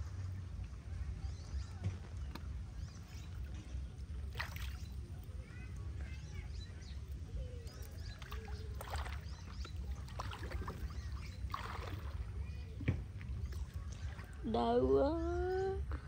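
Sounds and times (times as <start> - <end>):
water sloshing and splashing: 0.0 - 15.6.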